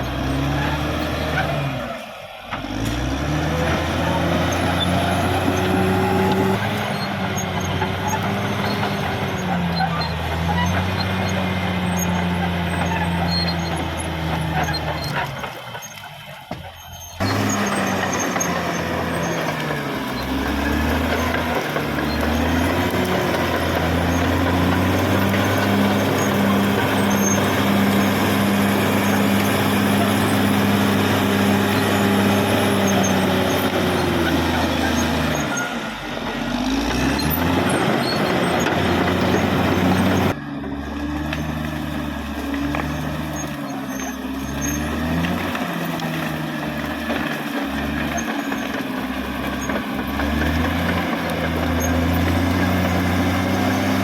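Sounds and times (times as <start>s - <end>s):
bulldozer diesel engine running hard: 0.0s - 54.0s.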